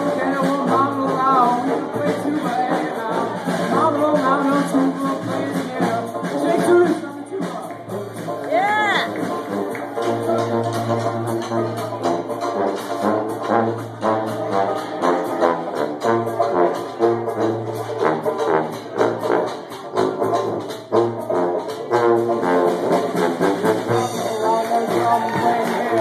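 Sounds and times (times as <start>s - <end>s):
brass melody: 0.0s - 26.0s
strummed banjo: 0.0s - 26.0s.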